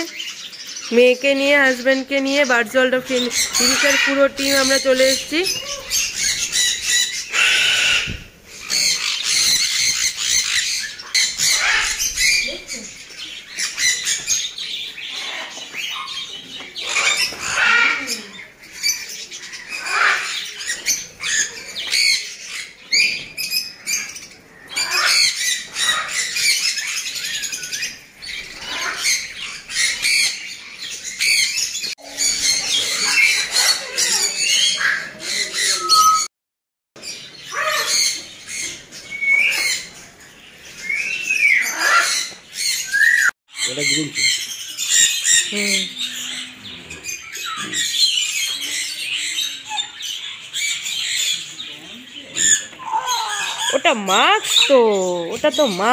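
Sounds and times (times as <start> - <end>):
parrots squawking and chirping: 0.0 - 36.3, 37.0 - 55.9.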